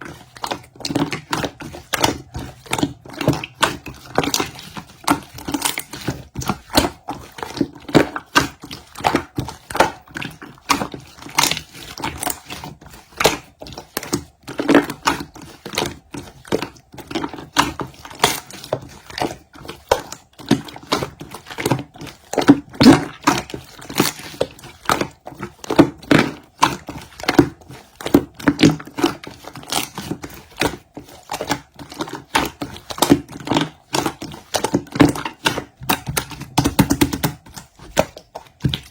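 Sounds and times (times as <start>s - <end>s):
close-up taps clicks and crinkles: 0.0s - 38.9s.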